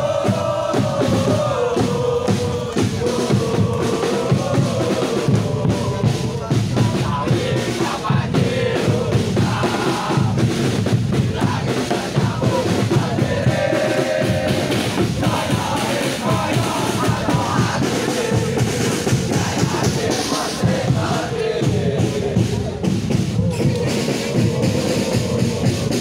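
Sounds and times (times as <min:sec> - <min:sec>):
crowd chanting in unison: 0:00.0 - 0:26.0
steady drum beat: 0:00.0 - 0:26.0.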